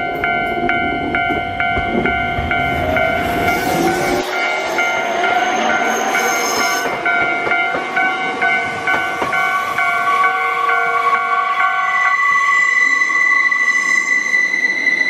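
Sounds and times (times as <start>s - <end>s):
bell ringing: 0.0s - 12.4s
electric train passing: 0.0s - 15.0s.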